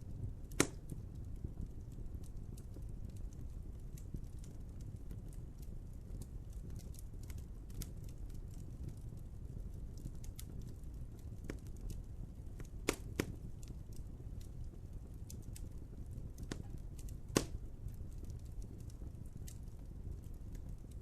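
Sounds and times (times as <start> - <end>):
loud fire snaps: 0.0 - 21.0
wood fire crackling: 0.0 - 21.0.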